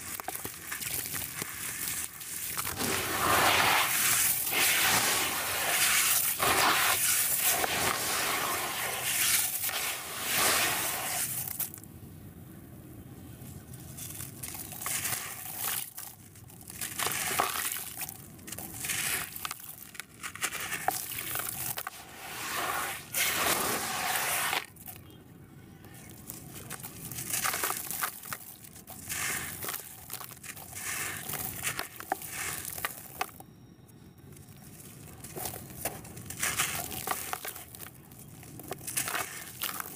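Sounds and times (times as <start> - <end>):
hands crumbling cement chunks in water: 0.0 - 11.8, 13.8 - 25.1, 26.1 - 33.4, 34.8 - 39.9.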